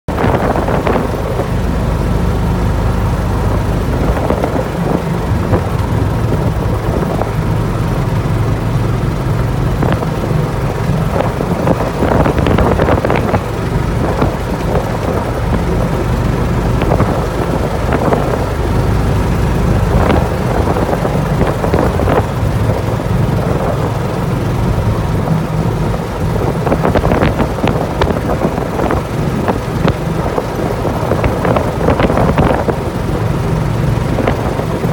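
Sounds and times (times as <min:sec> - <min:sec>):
vehicle engine rumble: 0:00.1 - 0:34.9.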